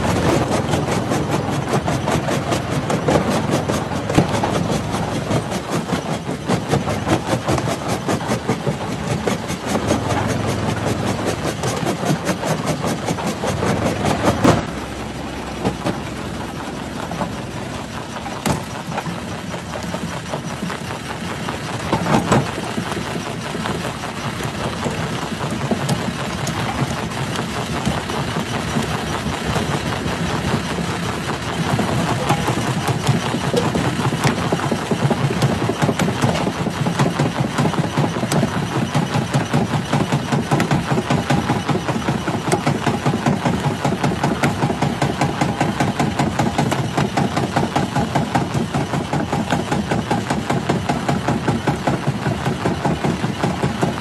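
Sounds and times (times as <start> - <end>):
rock crusher running: 0.0 - 54.0.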